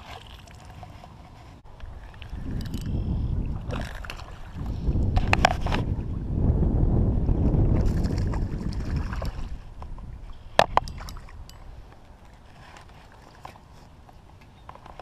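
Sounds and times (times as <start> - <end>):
wind rumble on microphone: 0.7 - 12.8.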